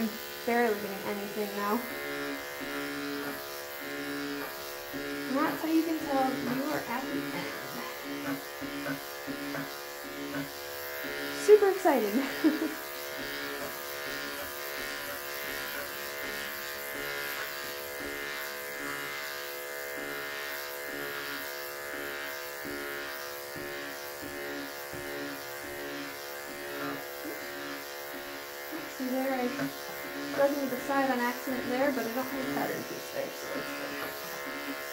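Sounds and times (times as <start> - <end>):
electric clippers humming: 0.0 - 34.9.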